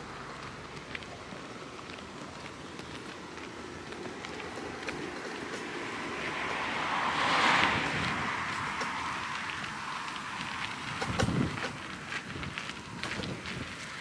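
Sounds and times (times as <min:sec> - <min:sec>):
wheelbarrow rolling over gravel: 0:00.0 - 0:14.0.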